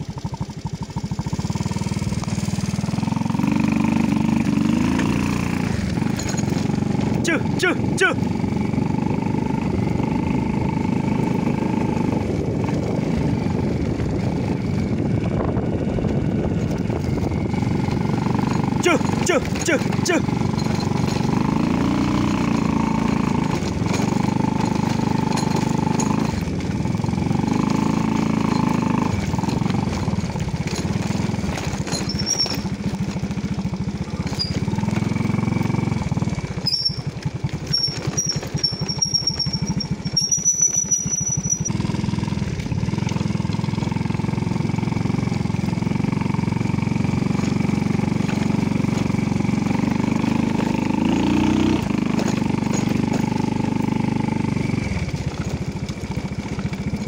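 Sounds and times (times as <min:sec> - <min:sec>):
small motorcycle engine: 0:00.0 - 0:57.0
rattling clatter: 0:00.3 - 0:07.3, 0:12.4 - 0:57.0.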